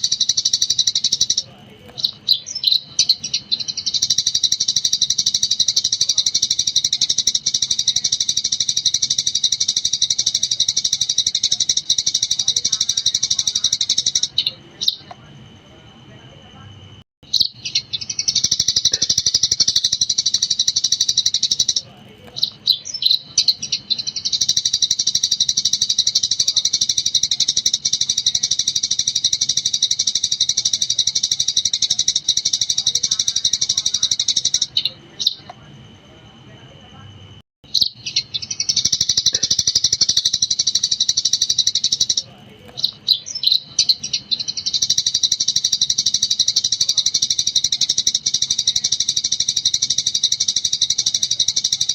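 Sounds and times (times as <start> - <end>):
sparrow chirping rapidly: 0.0 - 15.2, 17.2 - 35.5, 37.6 - 51.9.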